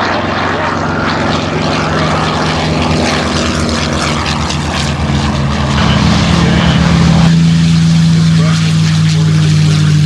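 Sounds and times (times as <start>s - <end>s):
propeller airplane engine: 0.0s - 10.0s.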